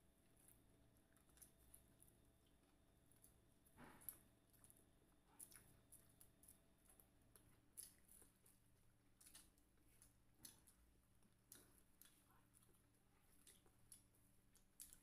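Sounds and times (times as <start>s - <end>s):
crispy food being chewed: 0.0s - 15.0s.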